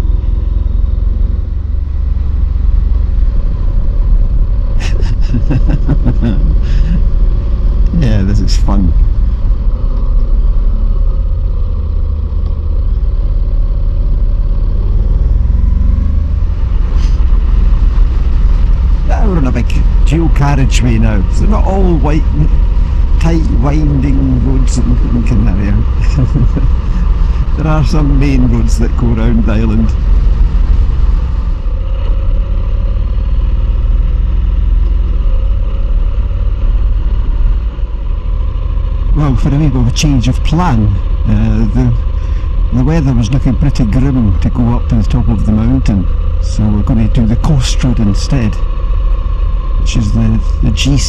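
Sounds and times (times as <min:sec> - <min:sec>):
motorcycle engine: 0:00.0 - 0:51.0
wind rumble: 0:00.0 - 0:51.0.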